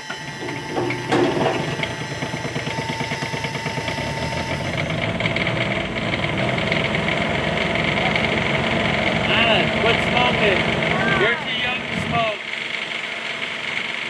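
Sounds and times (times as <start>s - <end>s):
diesel engine starting: 0.0s - 14.0s.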